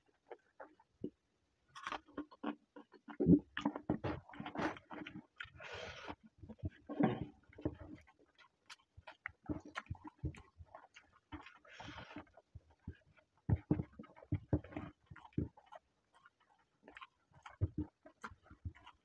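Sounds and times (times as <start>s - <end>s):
man chewing and lip-smacking: 0.1s - 19.0s.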